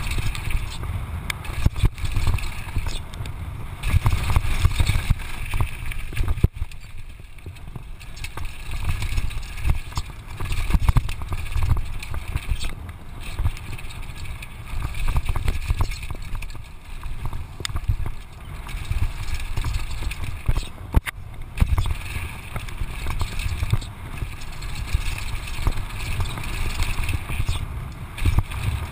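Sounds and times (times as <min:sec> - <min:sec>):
bike rattling over bumps: 0:00.0 - 0:28.9
wind rumble on microphone: 0:00.0 - 0:28.9.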